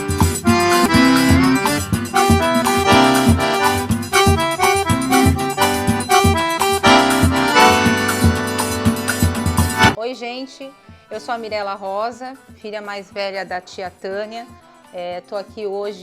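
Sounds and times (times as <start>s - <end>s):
accordion dance music: 0.0s - 14.1s.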